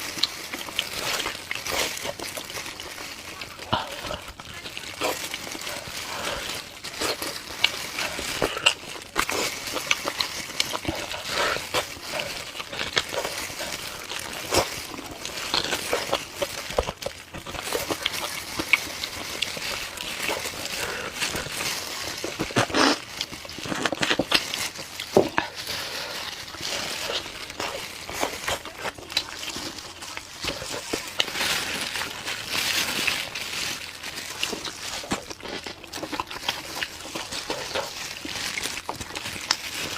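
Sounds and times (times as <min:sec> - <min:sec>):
person chewing: 0:00.0 - 0:39.9
small clicks and crackles: 0:00.0 - 0:39.9.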